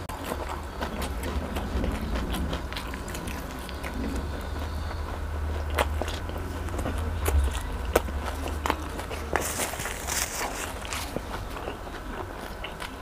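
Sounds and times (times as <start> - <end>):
wet chewing with mouth clicks: 0.0 - 13.0.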